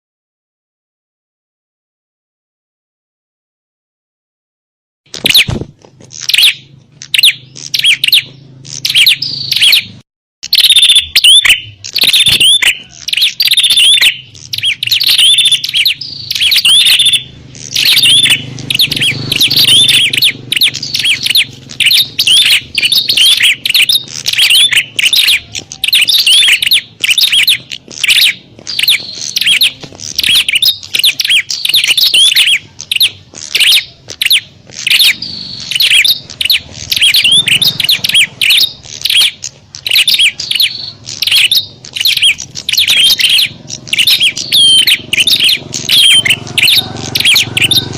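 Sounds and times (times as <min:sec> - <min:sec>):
birds chirping sharply: 0:05.1 - 0:47.9.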